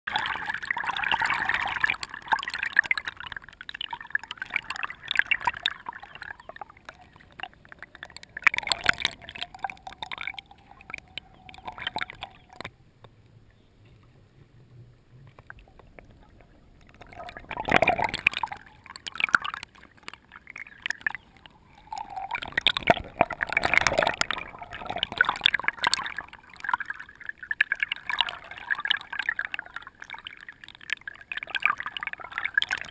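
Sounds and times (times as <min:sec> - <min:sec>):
water sloshing and gurgling: 0:00.1 - 0:32.9.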